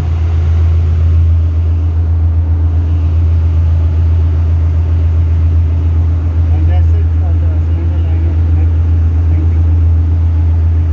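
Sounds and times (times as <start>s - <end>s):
engine-room machinery hum: 0.0s - 10.9s.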